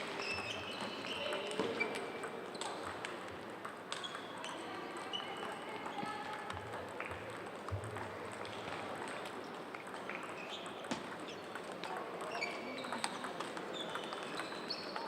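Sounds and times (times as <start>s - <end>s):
table tennis balls clicking: 0.9s - 15.0s.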